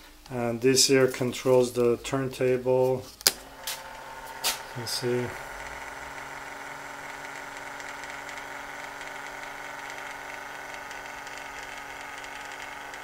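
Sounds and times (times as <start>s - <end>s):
electric motor and gear humming: 0.2s - 13.0s.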